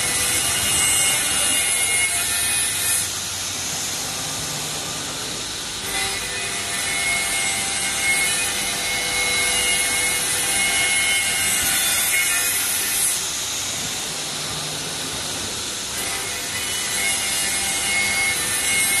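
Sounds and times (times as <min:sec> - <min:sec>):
saw machine cutting wood: 0:00.0 - 0:19.0.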